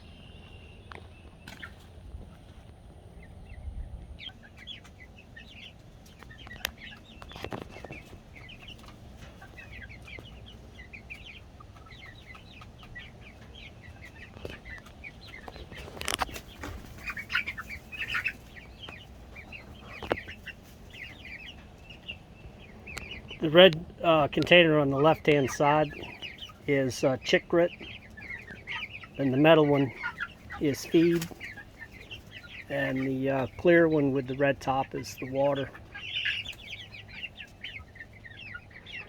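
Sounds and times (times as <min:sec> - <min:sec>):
chicks peeping: 0:00.0 - 0:39.0.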